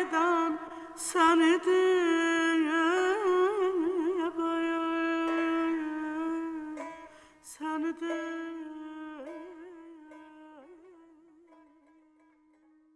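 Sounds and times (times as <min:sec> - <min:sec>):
traditional music with held note: 0:00.0 - 0:12.9.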